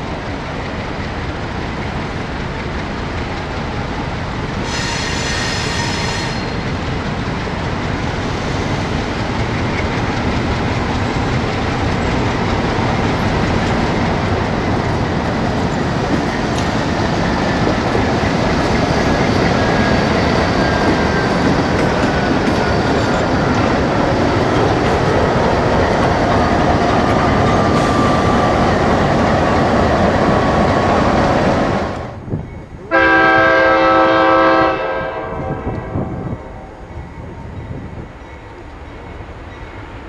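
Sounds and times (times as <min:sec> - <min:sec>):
train wheels clickety-clack: 0:00.0 - 0:32.4.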